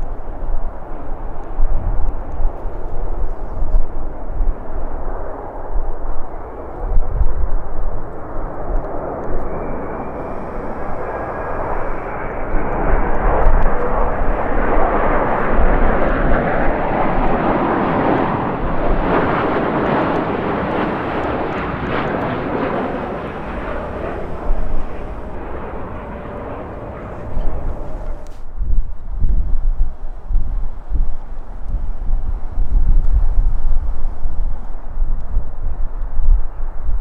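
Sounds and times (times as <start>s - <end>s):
jet airliner engine noise: 0.0s - 37.0s
wind buffeting microphone: 0.0s - 37.0s.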